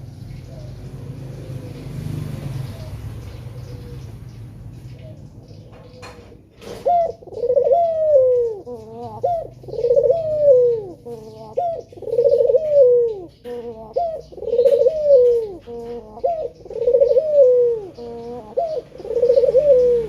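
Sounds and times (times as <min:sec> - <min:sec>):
dove cooing: 0:00.0 - 0:20.0
small birds chirping: 0:00.0 - 0:20.0.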